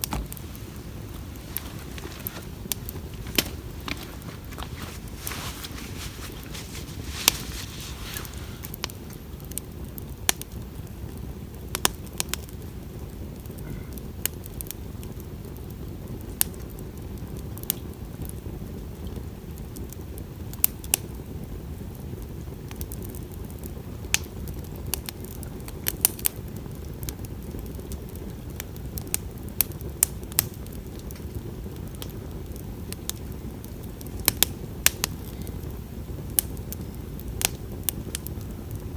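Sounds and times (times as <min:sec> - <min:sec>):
burning wood popping and crackling: 0:00.0 - 0:38.9
campfire flame rushing: 0:00.0 - 0:38.9.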